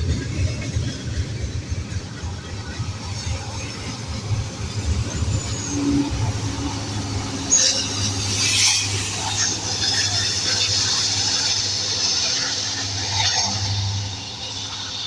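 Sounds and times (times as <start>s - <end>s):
freight train rolling past: 0.0s - 15.0s
steel wheels squealing on rails: 0.0s - 15.0s
train cars rattling and clanking: 0.0s - 15.0s.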